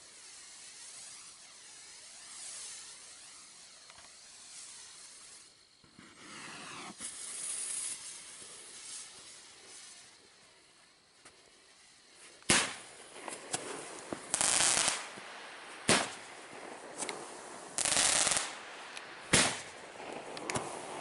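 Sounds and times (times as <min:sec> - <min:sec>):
fireworks hissing: 0:00.0 - 0:21.0
small fireworks pops: 0:00.0 - 0:21.0
fireworks bangs: 0:00.2 - 0:10.3, 0:12.2 - 0:21.0.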